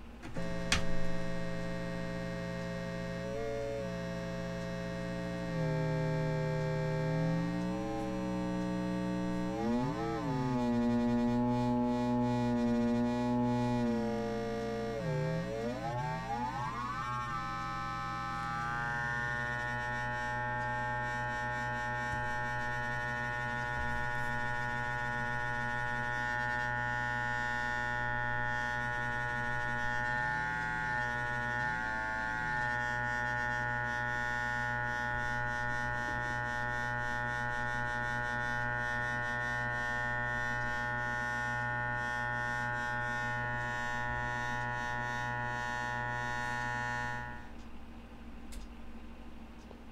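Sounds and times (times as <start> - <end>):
synthesizer oscillator drone: 0.0 - 47.9.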